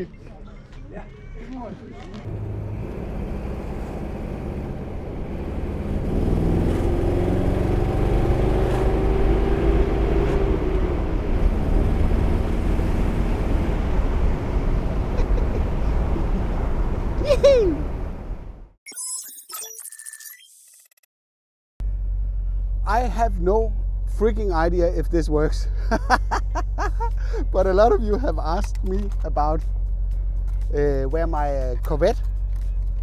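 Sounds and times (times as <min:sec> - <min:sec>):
car engine rumbling: 0:00.0 - 0:18.8, 0:21.8 - 0:33.0.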